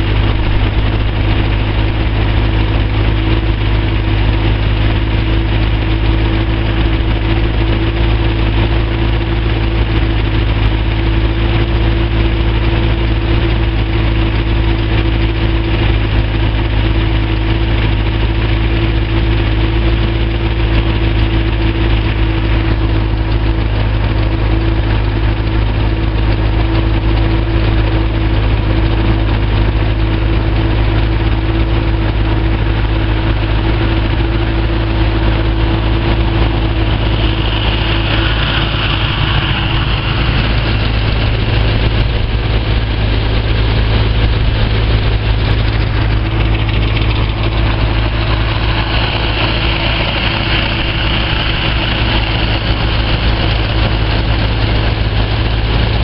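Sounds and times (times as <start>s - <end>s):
rush of air from fan: 0.0s - 19.5s, 29.6s - 56.0s
hovercraft engine hum: 0.0s - 56.0s.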